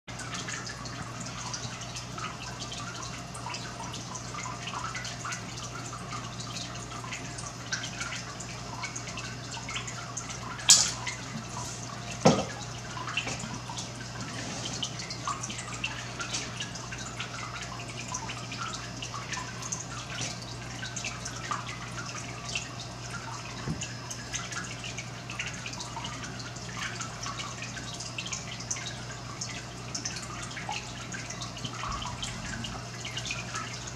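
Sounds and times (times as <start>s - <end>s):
steady low hum: 0.1s - 33.9s
water dripping and trickling: 0.1s - 33.9s.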